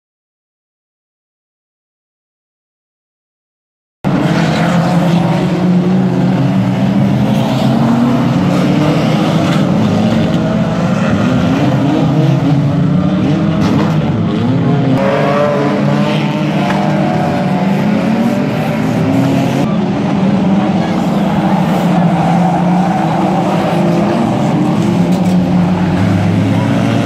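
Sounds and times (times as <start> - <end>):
racing car engines revving: 4.1 - 27.0.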